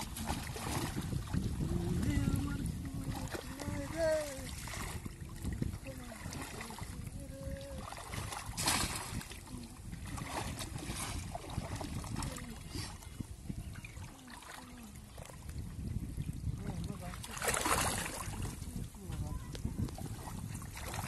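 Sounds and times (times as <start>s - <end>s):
shallow water sloshing and splashing: 0.0s - 21.0s.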